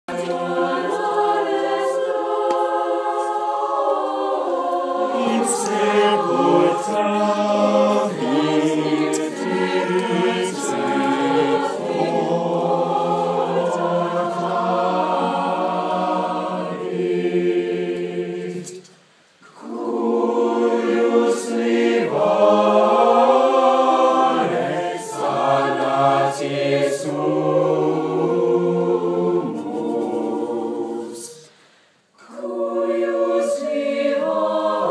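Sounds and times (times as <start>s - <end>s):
choir singing a cappella: 0.0s - 34.9s.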